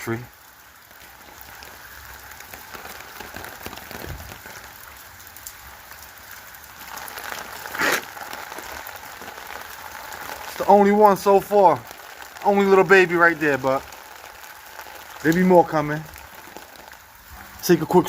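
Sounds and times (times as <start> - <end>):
rain falling: 0.0 - 18.0
raindrops ticking on surfaces: 0.0 - 18.0.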